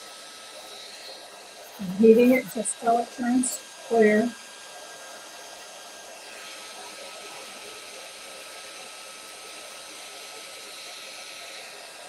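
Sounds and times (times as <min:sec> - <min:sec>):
faint steady whine: 0:00.0 - 0:12.0
heat gun fan hissing: 0:00.0 - 0:12.0.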